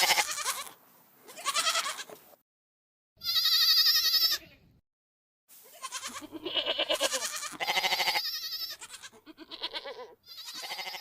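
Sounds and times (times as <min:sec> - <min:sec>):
goats bleating: 0:00.0 - 0:02.2, 0:03.2 - 0:04.5, 0:05.6 - 0:11.0.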